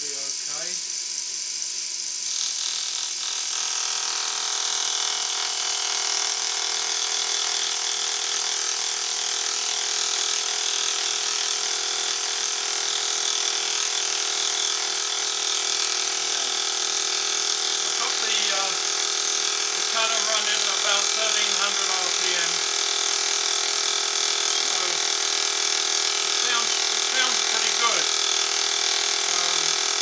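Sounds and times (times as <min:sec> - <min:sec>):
milling machine cutting: 0:00.0 - 0:30.0.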